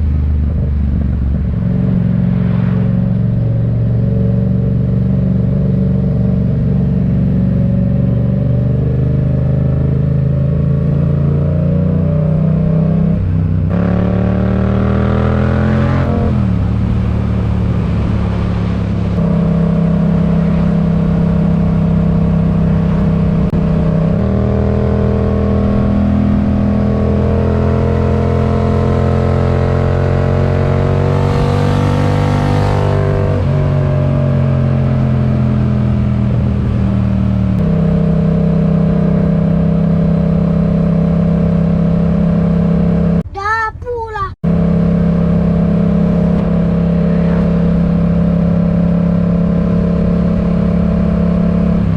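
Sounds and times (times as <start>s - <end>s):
motorcycle engine cruising: 0.0s - 43.2s, 44.4s - 51.9s
second engine passing: 0.0s - 43.2s, 44.4s - 51.9s.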